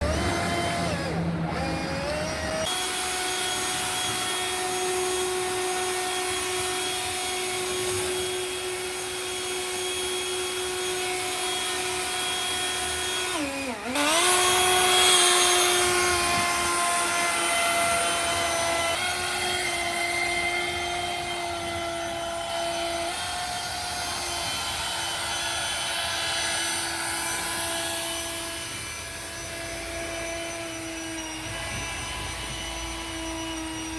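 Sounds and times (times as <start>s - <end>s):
leaf blower motor whine: 0.0s - 33.9s.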